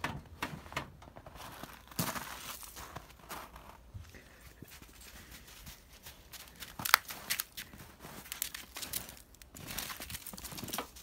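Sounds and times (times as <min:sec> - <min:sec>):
footsteps crunching on snow: 0:01.2 - 0:11.0.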